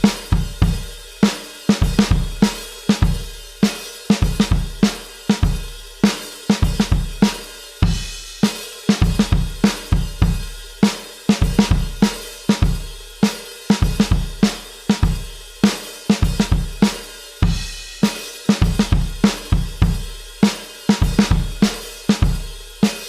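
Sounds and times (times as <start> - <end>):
rock drum beat: 0.0 - 23.0.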